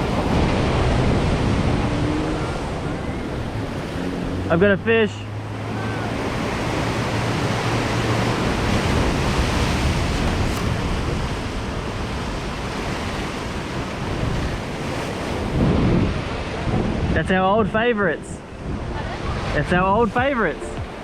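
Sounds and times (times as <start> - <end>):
wind on microphone: 0.0 - 4.5, 5.3 - 21.0
ocean surf washing ashore: 0.0 - 21.0.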